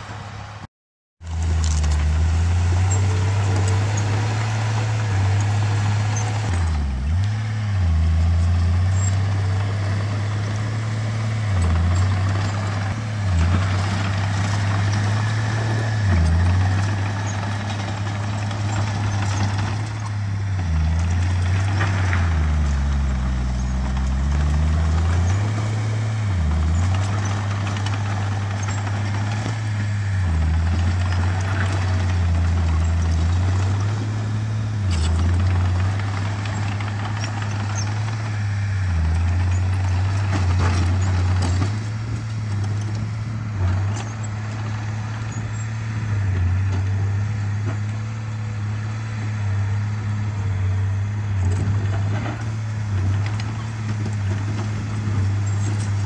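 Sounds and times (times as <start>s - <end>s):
diesel engine running loudly: 0.0s - 56.0s.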